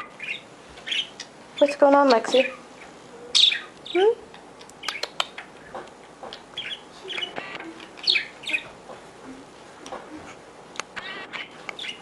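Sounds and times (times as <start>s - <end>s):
parrot chirping: 0.0s - 8.8s, 11.0s - 12.0s.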